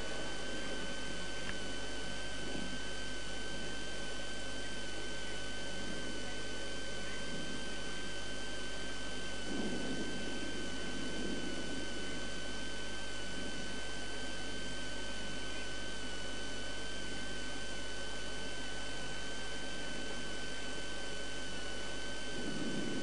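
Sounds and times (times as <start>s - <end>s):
steady hiss in car cabin: 0.0s - 23.0s
thin high-pitched whine: 0.0s - 23.0s.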